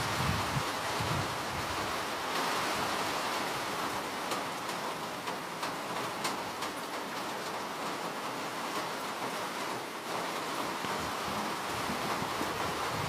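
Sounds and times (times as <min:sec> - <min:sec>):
rain hiss: 0:00.0 - 0:13.0
raindrops ticking on surface: 0:00.0 - 0:13.0.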